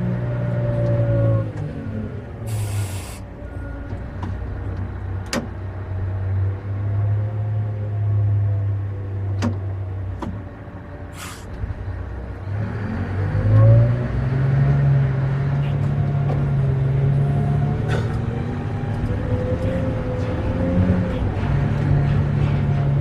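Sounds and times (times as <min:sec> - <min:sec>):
truck diesel engine revving: 0:00.0 - 0:23.0.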